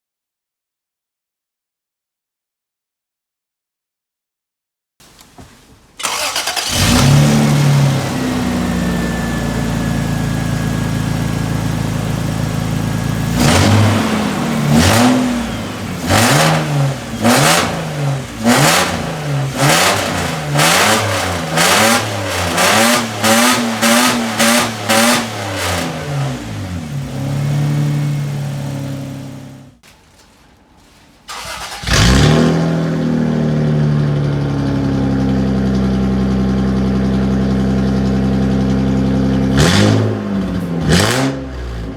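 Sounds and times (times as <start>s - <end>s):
car engine starting and idling: 5.0s - 41.9s
engine throttle blips: 6.0s - 29.8s, 31.3s - 41.9s.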